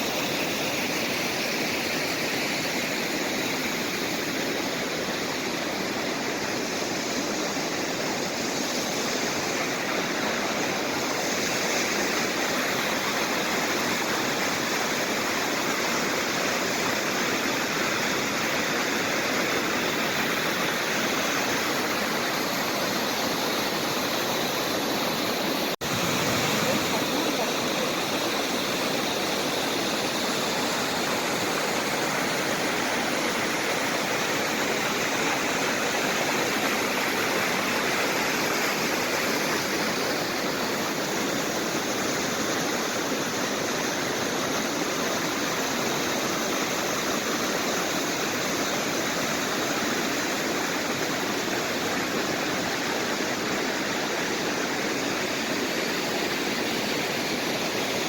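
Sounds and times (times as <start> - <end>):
rushing stream water: 0.0 - 58.0.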